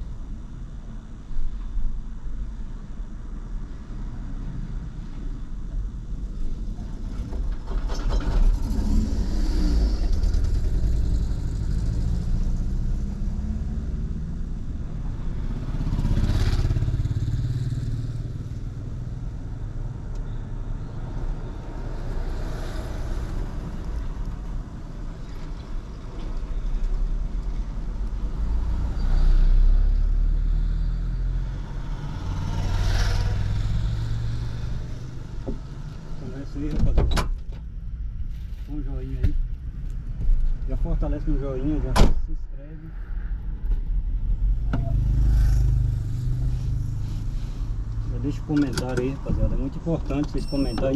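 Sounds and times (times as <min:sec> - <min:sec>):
car engine and exhaust: 0:00.0 - 0:50.9
road noise: 0:00.0 - 0:50.9.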